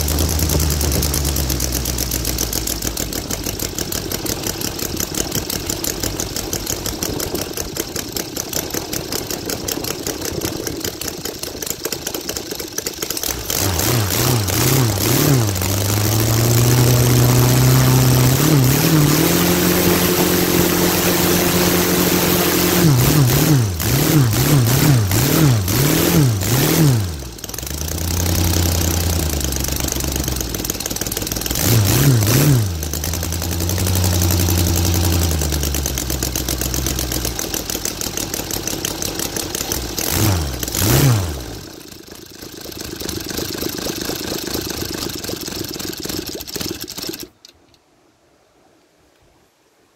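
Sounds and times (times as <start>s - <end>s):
model aircraft engine revving: 0.0s - 47.3s.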